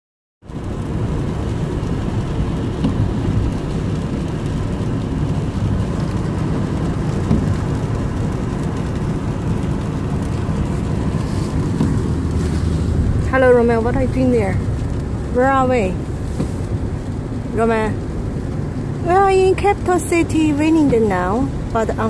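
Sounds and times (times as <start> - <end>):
vehicle cabin rumble: 0.5 - 22.0.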